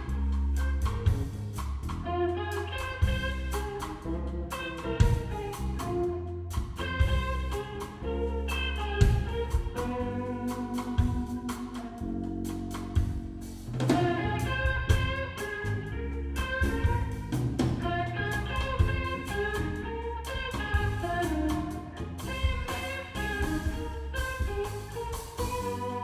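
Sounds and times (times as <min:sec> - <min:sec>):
drum kit: 0:00.0 - 0:26.0
electric bass: 0:00.0 - 0:26.0
electric guitar melody: 0:00.0 - 0:26.0.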